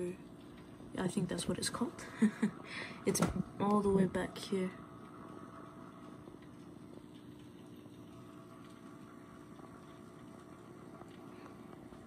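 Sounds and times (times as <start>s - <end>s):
aquarium air bubbling: 0.0s - 12.0s
aquarium pump hum: 0.0s - 12.0s.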